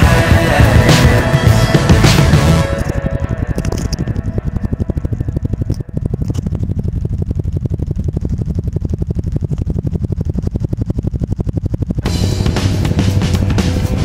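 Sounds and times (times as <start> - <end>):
fast pulsing bass line: 0.0 - 14.0.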